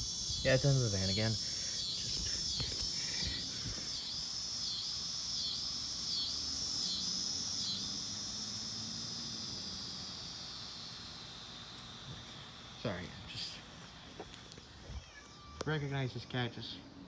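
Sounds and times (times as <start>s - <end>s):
insects calling in chorus: 0.0s - 17.0s.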